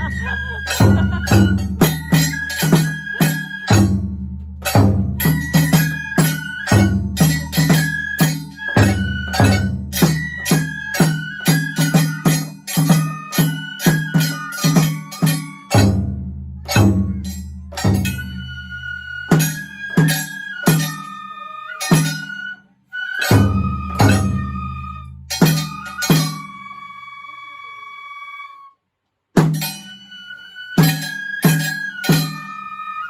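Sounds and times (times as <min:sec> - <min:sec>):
taiko drums beaten in steady rhythm: 0:00.0 - 0:22.5, 0:23.1 - 0:26.5, 0:29.4 - 0:32.6
metallic percussion clanging: 0:00.0 - 0:26.7, 0:29.4 - 0:33.0
high bamboo flute melody: 0:00.0 - 0:28.8, 0:29.4 - 0:33.0.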